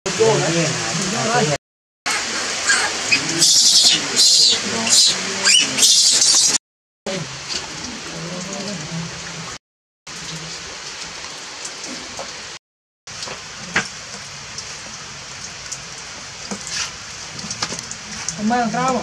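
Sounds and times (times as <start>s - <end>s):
steady rain falling: 0.1s - 19.0s.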